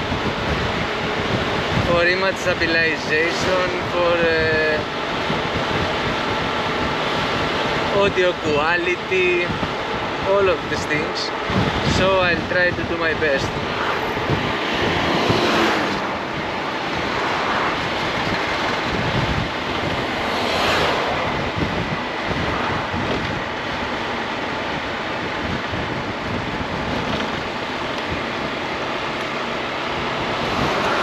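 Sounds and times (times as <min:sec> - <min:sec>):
scooter engine and road noise: 0:00.0 - 0:31.0
wind rush over microphone: 0:00.0 - 0:31.0.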